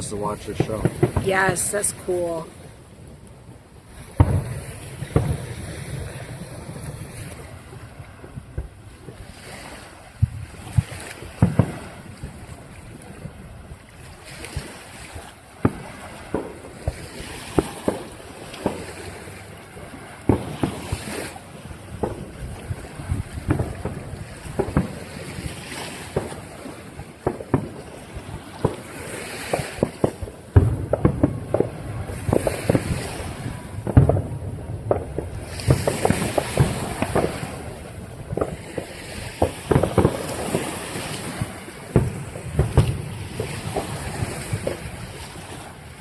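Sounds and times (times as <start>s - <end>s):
distant fireworks booming: 0.0s - 46.0s
wind noise on microphone: 3.4s - 46.0s.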